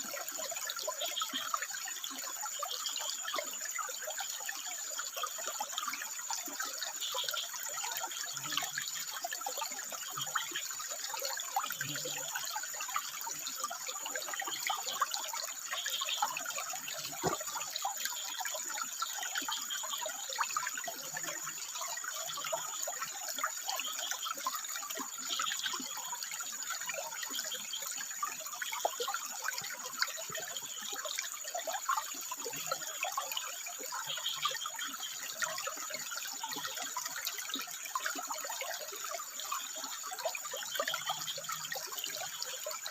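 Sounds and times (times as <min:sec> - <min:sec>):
water trickling over rocks: 0:00.0 - 0:42.9
frogs calling: 0:04.2 - 0:29.3, 0:30.2 - 0:42.9.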